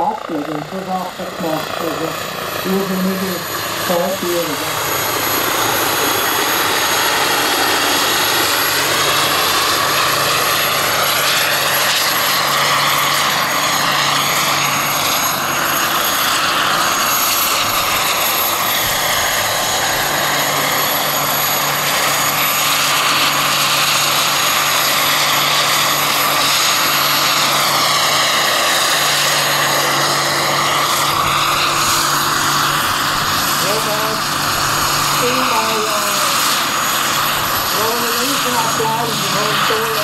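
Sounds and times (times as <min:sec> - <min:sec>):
rotor blades rushing: 0:00.0 - 0:40.0
turbine whine: 0:00.0 - 0:40.0.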